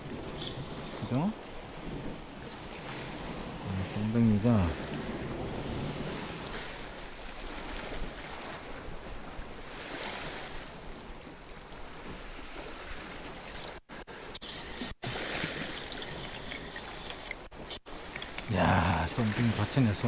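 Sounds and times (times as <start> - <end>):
sea waves washing on shore: 0.0 - 20.0
wind: 0.0 - 20.0.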